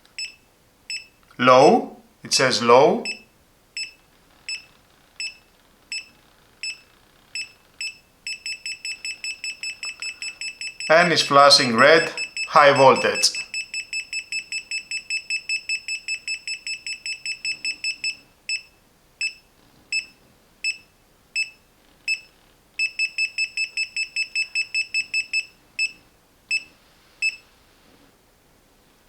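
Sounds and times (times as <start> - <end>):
multimeter buzzer beeping: 3.0 - 6.8, 7.4 - 27.4.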